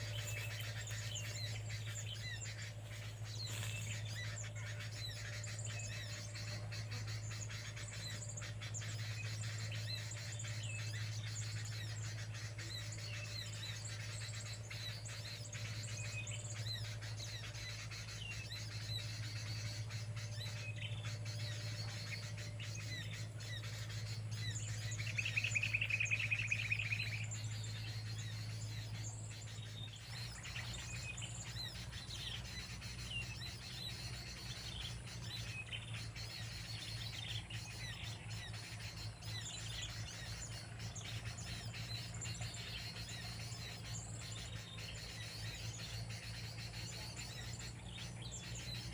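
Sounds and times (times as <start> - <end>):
rapid bird trill: 0.0 - 48.9
small birds chirping: 0.0 - 48.9
steady low hum: 0.0 - 48.9.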